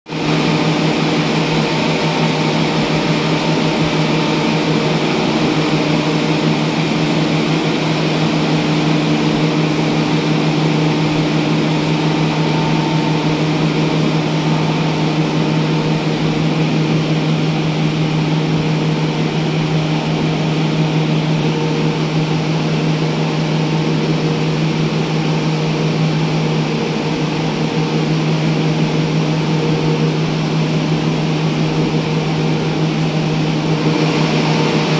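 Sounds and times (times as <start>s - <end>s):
motor running with low hum: 0.1s - 34.9s.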